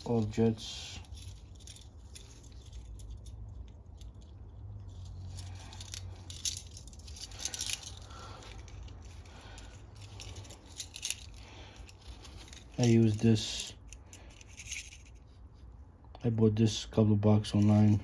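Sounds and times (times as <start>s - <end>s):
metal parts and tools rattling: 0.0s - 15.4s, 17.5s - 18.0s
low steady hum: 0.0s - 18.0s.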